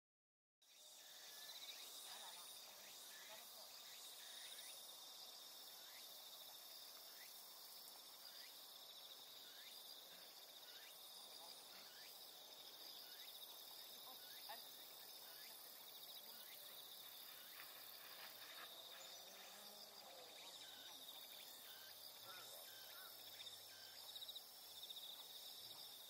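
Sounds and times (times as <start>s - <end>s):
faint insects trilling: 0.7s - 26.0s.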